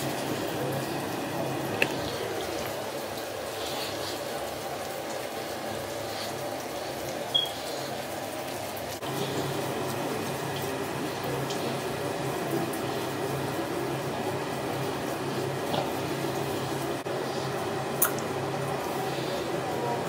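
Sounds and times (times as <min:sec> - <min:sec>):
cleansing brush scrubbing wet skin: 0:00.0 - 0:19.5.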